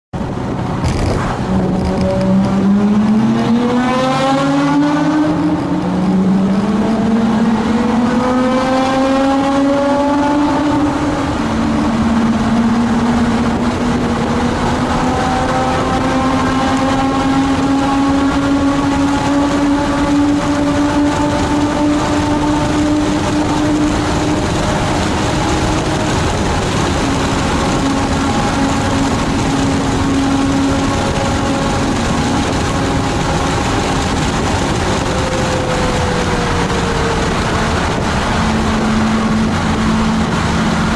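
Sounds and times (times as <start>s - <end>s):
car engine at full throttle: 0.1s - 40.9s.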